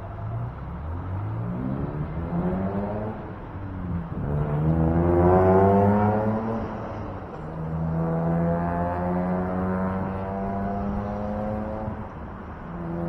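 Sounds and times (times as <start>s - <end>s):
vehicle engines accelerating: 0.0s - 13.0s.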